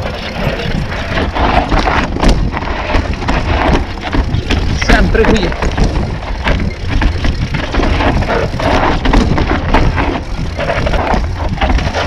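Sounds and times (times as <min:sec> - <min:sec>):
bike rattling: 0:00.0 - 0:12.0
bike tyres crunching over stones: 0:00.0 - 0:12.0
wind rumble on microphone: 0:00.0 - 0:12.0.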